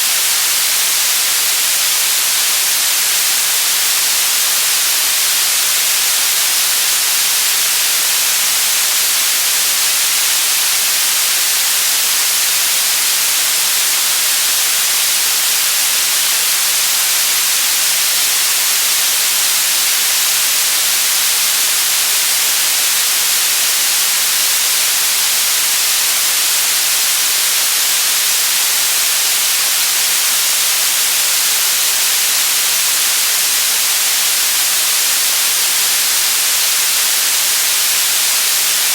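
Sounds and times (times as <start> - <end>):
loud white noise hiss: 0.0 - 38.9.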